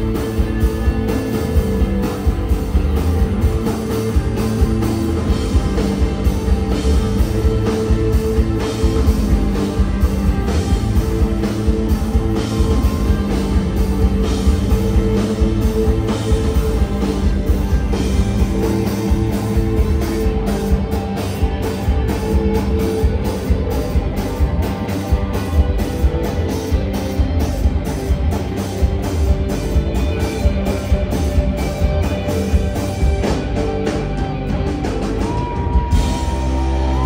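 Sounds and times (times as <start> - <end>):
drum kit playing: 0.0 - 37.0
electric guitars sustained notes: 0.0 - 37.0.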